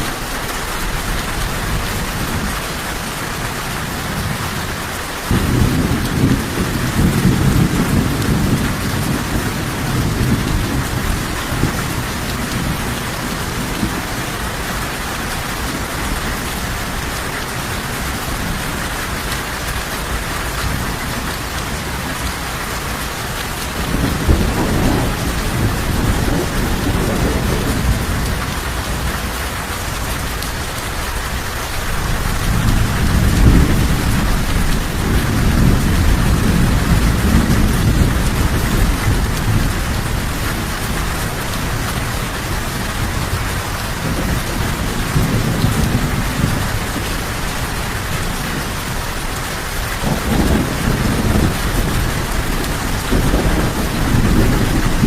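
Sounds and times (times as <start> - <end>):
heavy rain: 0.0 - 55.0
rolling thunder rumbles: 0.8 - 55.0.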